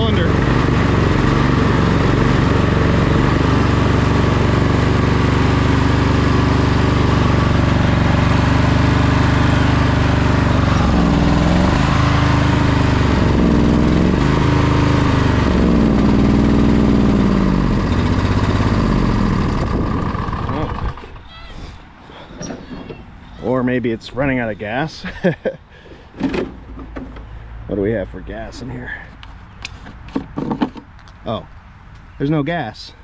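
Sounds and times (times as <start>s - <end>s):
lawn tractor engine surging: 0.0s - 21.3s, 22.0s - 29.1s.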